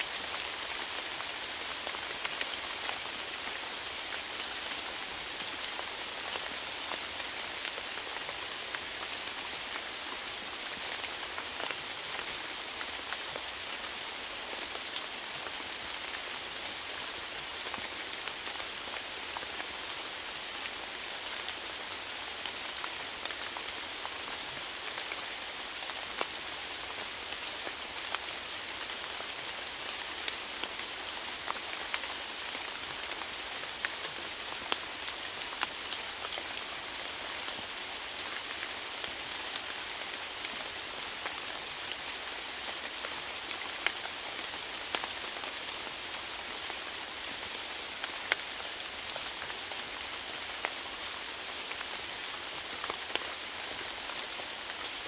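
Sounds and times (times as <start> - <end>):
raindrops hitting a surface: 0.0 - 55.0
steady rain falling: 0.0 - 55.0.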